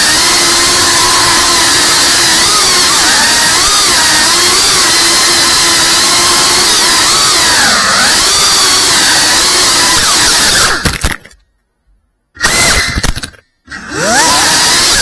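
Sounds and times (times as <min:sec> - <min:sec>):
drone motors whining: 0:00.0 - 0:10.9, 0:12.4 - 0:15.0.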